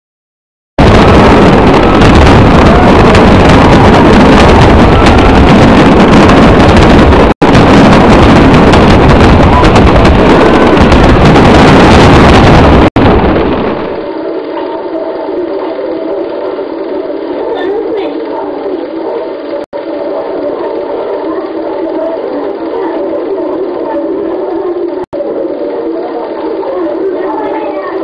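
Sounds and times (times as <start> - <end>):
fireworks crackling: 0.8 - 28.0
muffled sound: 0.8 - 28.0.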